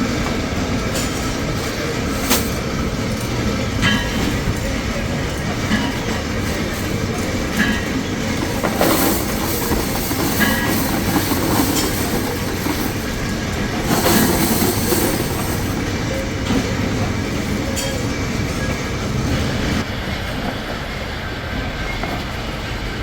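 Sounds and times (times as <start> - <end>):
metalworking machinery running: 0.0 - 19.9.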